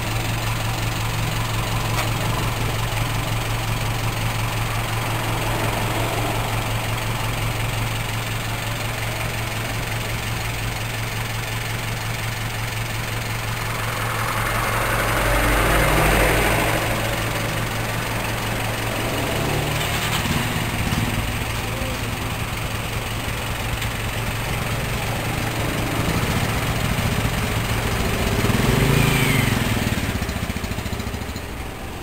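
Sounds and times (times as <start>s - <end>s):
van engine idling: 0.0s - 32.0s.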